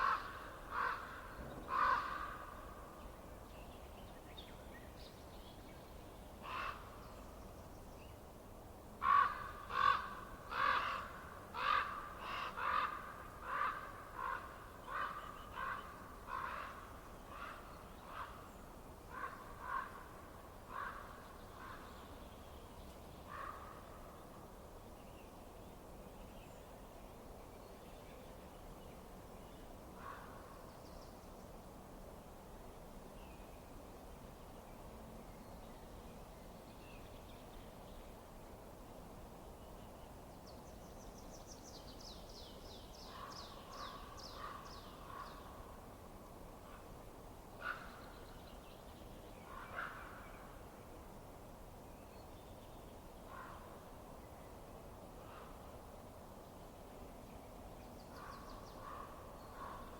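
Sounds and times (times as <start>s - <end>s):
steady low hiss: 0.0s - 59.9s.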